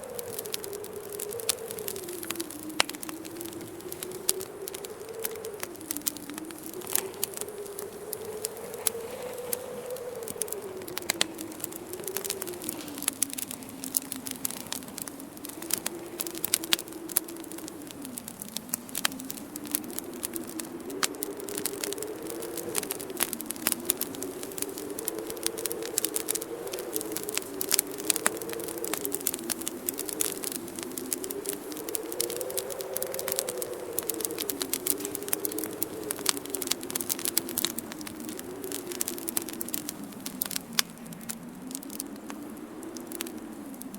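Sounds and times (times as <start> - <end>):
howling wind: 0.0 - 43.9
wood fire crackling: 0.0 - 43.9.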